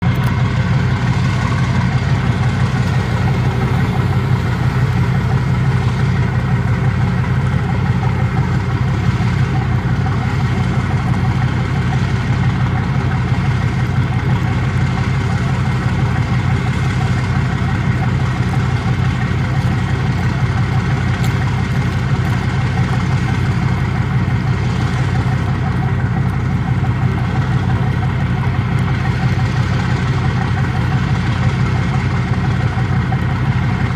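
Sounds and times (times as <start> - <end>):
diesel boat engines idling: 0.0 - 33.9.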